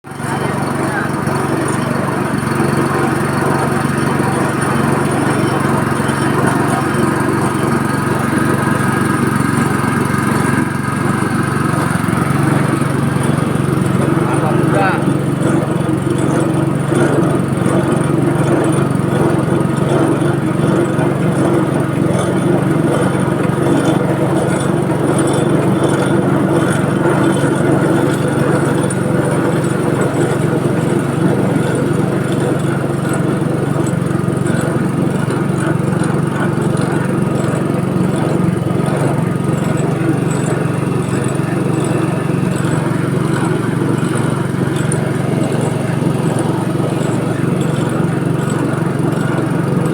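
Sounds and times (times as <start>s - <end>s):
machine motor hum: 0.1s - 49.9s.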